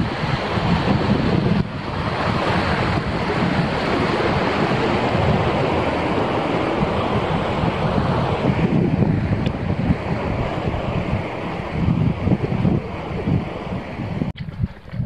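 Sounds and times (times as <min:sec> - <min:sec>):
stream rushing over rocks: 0:00.0 - 0:14.0
wind buffeting microphone: 0:00.0 - 0:15.0.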